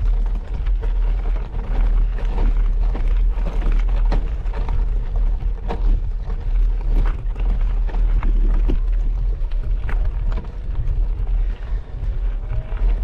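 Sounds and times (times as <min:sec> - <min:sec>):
bicycle rattling: 0:00.0 - 0:13.0
bicycle tyres crunching gravel: 0:00.0 - 0:13.0
wind buffeting microphone: 0:00.0 - 0:13.0.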